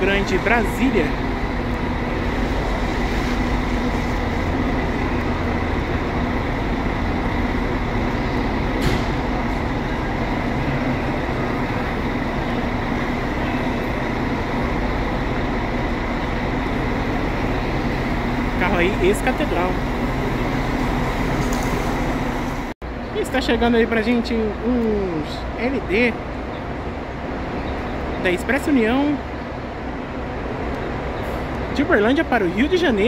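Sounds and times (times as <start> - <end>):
coach engine running: 0.0 - 33.0.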